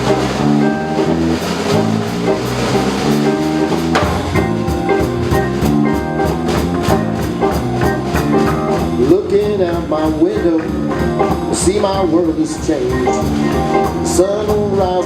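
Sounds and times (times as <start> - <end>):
live blues band playing: 0.0 - 15.0
steady drum beat: 0.0 - 15.0.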